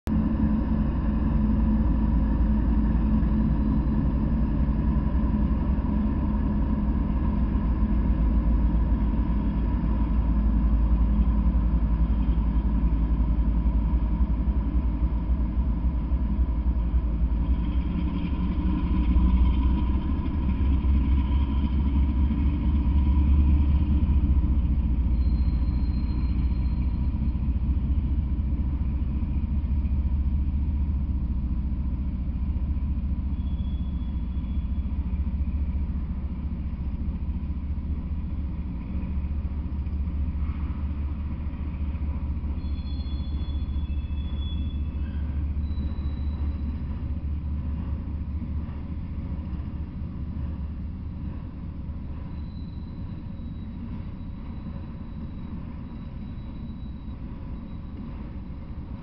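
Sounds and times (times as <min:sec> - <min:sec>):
diesel locomotive engine drone: 0:00.0 - 0:59.0
train wheels on rails: 0:00.1 - 0:59.0.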